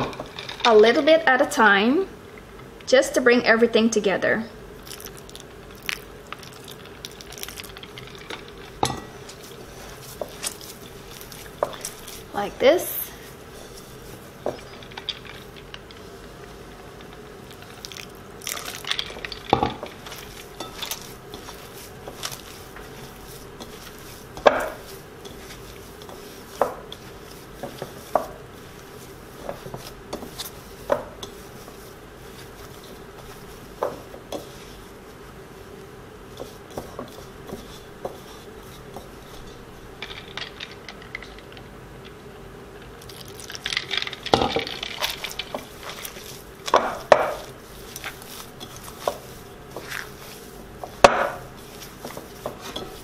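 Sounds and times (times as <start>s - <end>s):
faint steady hum: 0.0s - 53.0s
hand kneading dough: 4.8s - 15.9s, 17.4s - 40.8s, 43.0s - 53.0s.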